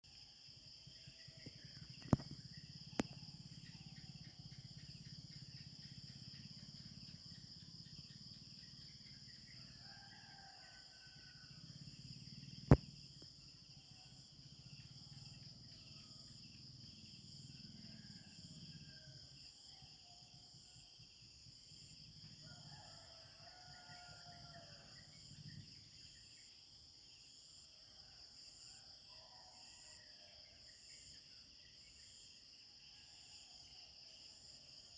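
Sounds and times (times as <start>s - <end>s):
insects chorus: 0.0s - 34.9s.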